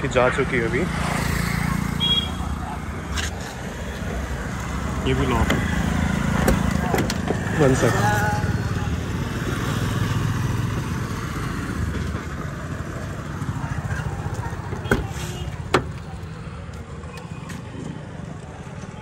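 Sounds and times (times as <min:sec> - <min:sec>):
motorcycles passing: 0:00.0 - 0:19.0
street traffic rumble: 0:00.0 - 0:19.0.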